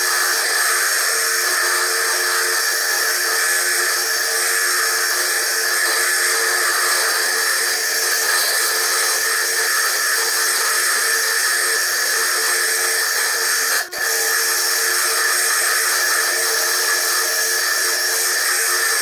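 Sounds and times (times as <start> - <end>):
drill grinding stone: 0.0 - 19.0.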